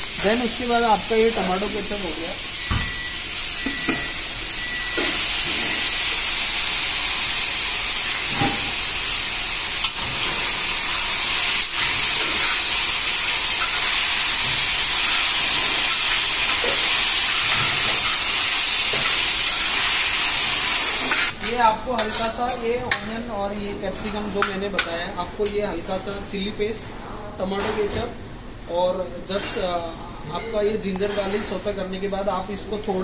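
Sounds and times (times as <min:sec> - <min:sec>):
loud sizzle in a wok: 0:00.0 - 0:26.8.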